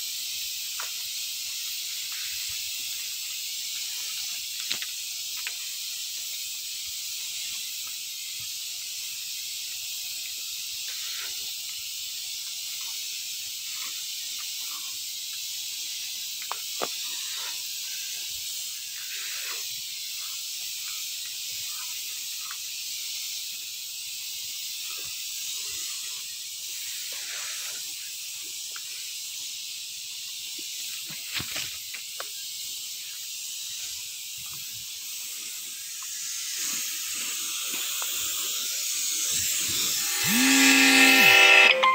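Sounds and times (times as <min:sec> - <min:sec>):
spray gun hissing: 0:00.0 - 0:41.7.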